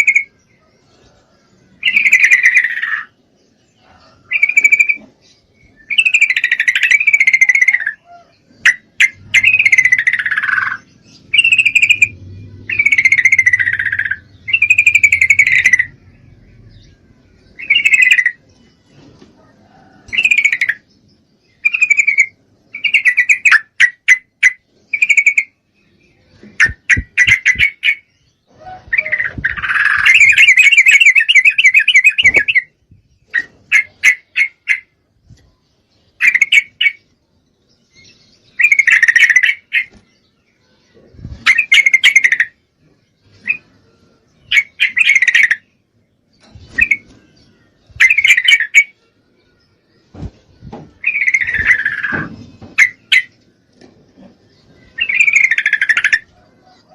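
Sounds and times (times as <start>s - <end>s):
bulbul chattering calls: 1.8s - 18.8s, 20.0s - 25.6s, 26.4s - 34.9s, 38.0s - 40.1s, 40.8s - 42.6s, 43.3s - 45.8s, 46.4s - 49.0s, 50.8s - 53.5s, 54.2s - 56.9s.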